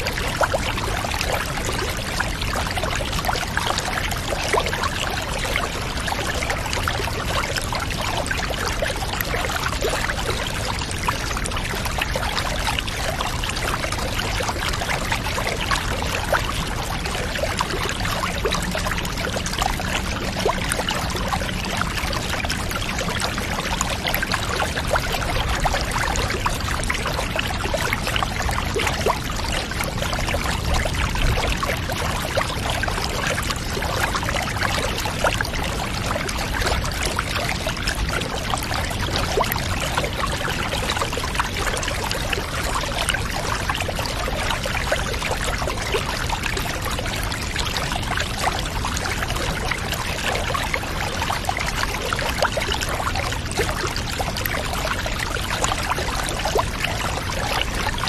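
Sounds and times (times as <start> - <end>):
water pouring and trickling: 0.0 - 58.0.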